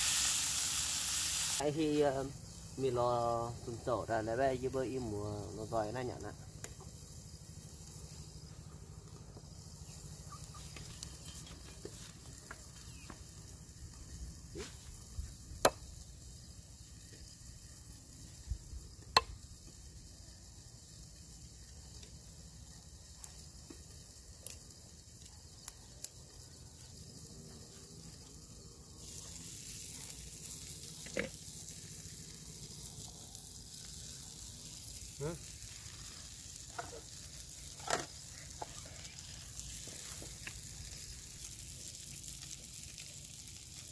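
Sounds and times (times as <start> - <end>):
fish sizzling in a pan: 0.0 - 43.9.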